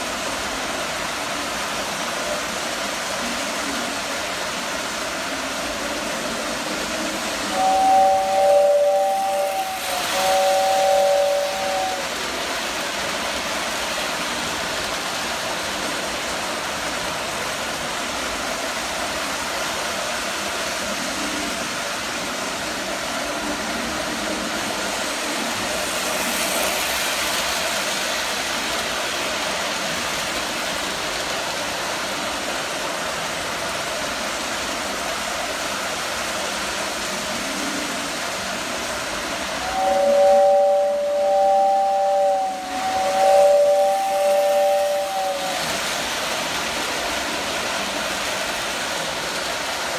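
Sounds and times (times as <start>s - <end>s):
model trains rolling and whirring: 0.0s - 49.9s.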